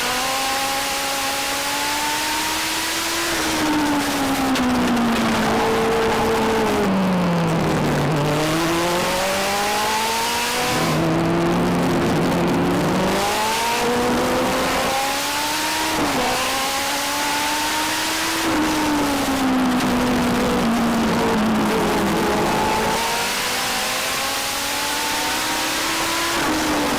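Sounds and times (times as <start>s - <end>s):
other race car engines: 0.0s - 26.9s
race car engine revving: 0.0s - 26.9s.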